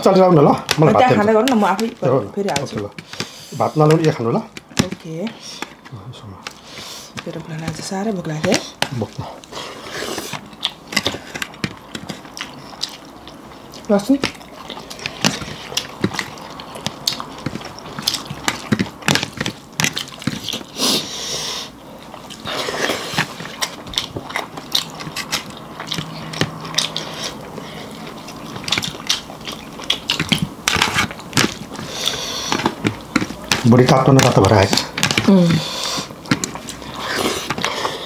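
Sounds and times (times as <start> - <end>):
people chewing and crunching: 0.0 - 38.0.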